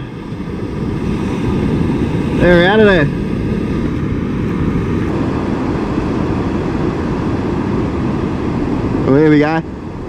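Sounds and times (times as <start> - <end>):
surf washing up beach: 0.0 - 10.0
wind buffeting microphone: 0.0 - 10.0.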